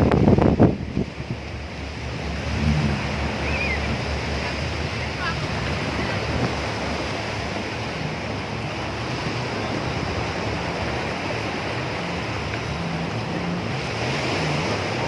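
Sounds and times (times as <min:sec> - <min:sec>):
sea surf: 0:00.0 - 0:15.0
wind on microphone: 0:00.0 - 0:15.0.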